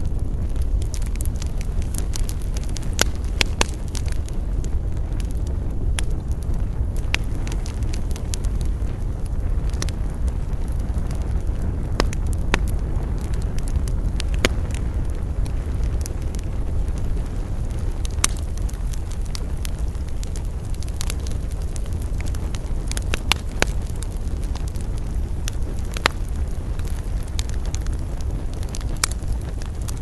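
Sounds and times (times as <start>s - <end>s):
campfire crackling and popping: 0.0s - 30.0s
low fire rumble: 0.0s - 30.0s.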